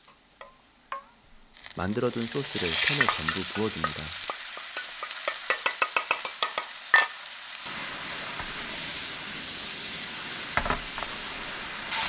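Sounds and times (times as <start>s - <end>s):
sauce sizzling in a frying pan: 1.5s - 12.0s.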